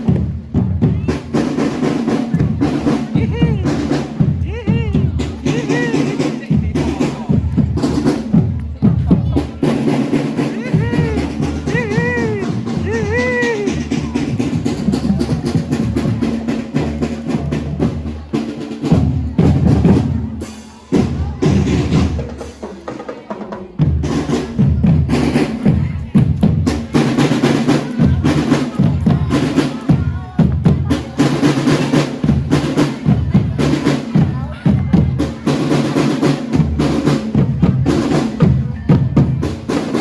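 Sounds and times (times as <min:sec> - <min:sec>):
busy drumming: 0:00.0 - 0:40.0.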